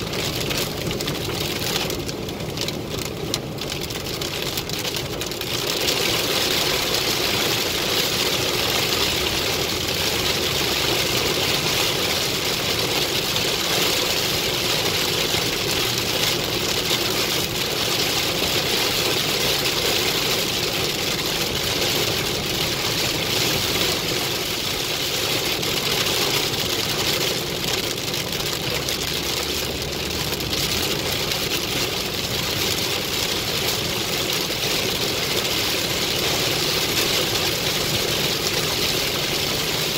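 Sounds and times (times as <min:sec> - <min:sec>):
car engine: 0:00.0 - 0:39.9
heavy rain on car roof: 0:00.0 - 0:39.9
tyres on wet road: 0:00.0 - 0:39.9.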